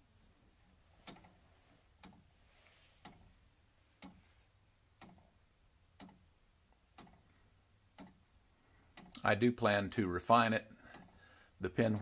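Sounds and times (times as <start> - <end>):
clock escapement ticking: 1.0 - 2.4, 3.0 - 12.0.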